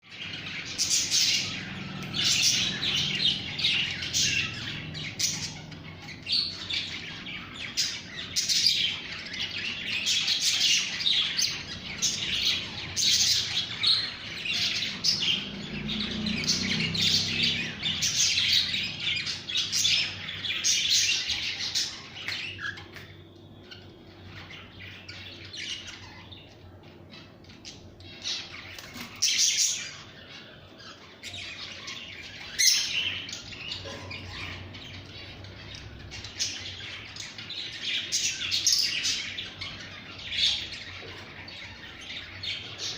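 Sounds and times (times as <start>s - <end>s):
pet birds chirping and squawking: 0.0s - 42.9s.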